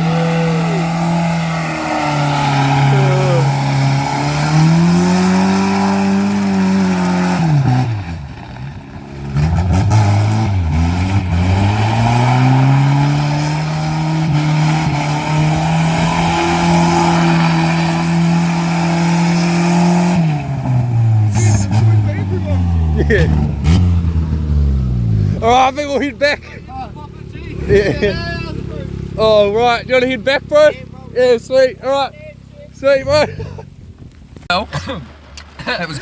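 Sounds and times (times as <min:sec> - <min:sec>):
car engine revving hard: 0:00.0 - 0:08.4, 0:09.1 - 0:33.6.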